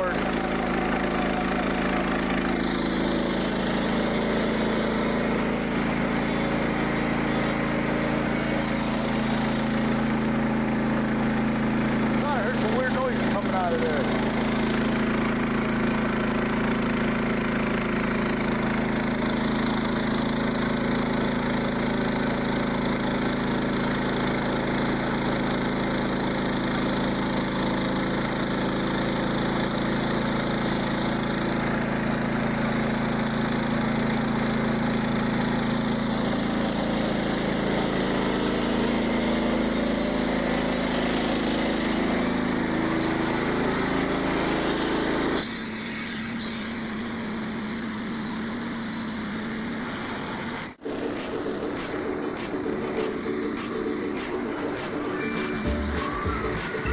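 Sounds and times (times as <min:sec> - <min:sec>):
band sawmill running: 0:00.0 - 0:56.9.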